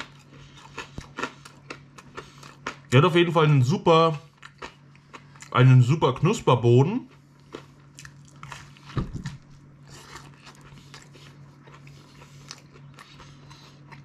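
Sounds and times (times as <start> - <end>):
faint low hum: 0.0 - 14.0
person chewing crispy pizza: 0.0 - 14.0.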